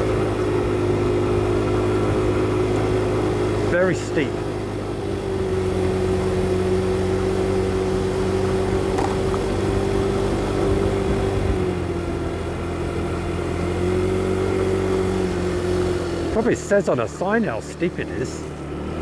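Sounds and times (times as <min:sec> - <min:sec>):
motorcycle engine under load: 0:00.0 - 0:19.0
road noise: 0:00.0 - 0:19.0.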